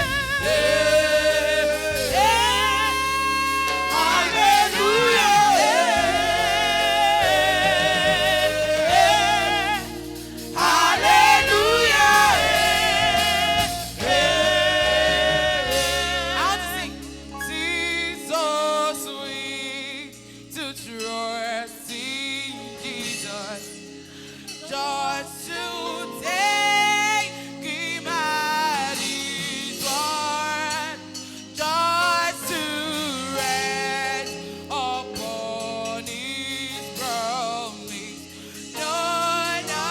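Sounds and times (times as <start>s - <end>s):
gospel choir singing: 0.0s - 39.9s
instrumental backing: 0.0s - 39.9s.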